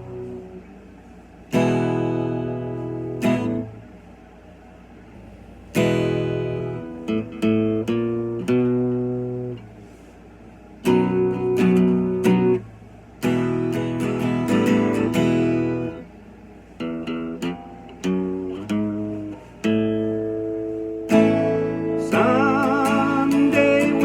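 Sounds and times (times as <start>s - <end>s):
solo acoustic guitar: 0.0s - 24.0s.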